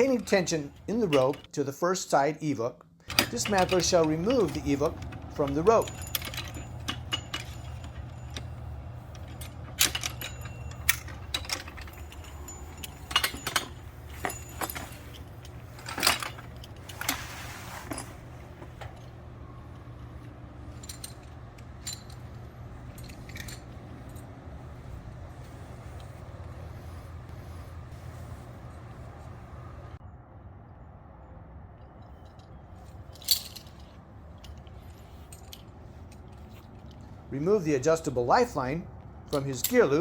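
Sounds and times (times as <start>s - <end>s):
metal hardware clinking and rattling: 0.0s - 1.5s, 3.1s - 27.0s, 31.8s - 37.7s, 39.3s - 40.0s
low hum: 3.1s - 37.3s.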